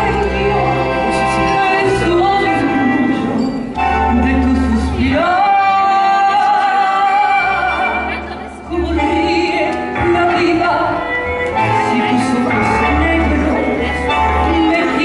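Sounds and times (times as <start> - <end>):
instrumental accompaniment: 0.0 - 15.0
woman singing: 0.0 - 15.0.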